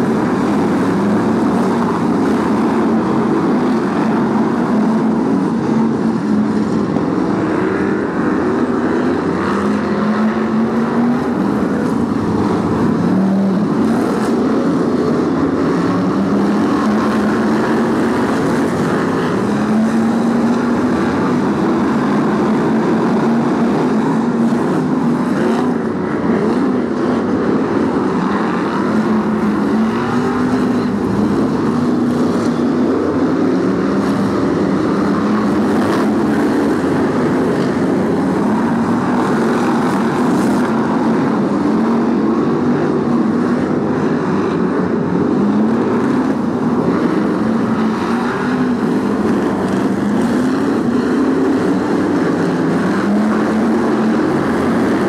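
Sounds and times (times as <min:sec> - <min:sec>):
racing car engines: 0:00.0 - 0:55.0.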